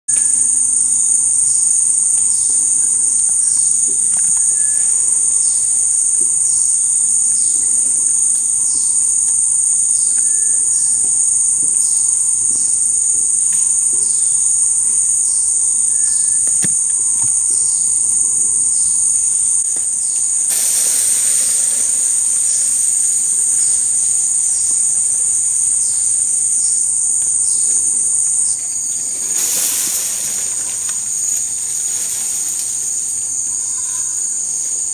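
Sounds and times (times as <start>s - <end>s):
insect chorus drone: 0.1s - 34.9s.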